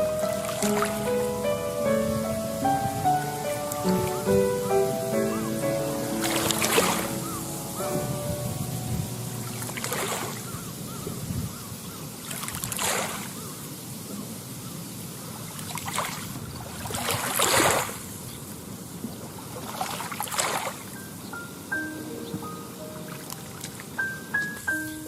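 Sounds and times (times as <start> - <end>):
small waves lapping at shore: 0.0 - 21.7, 22.3 - 24.9.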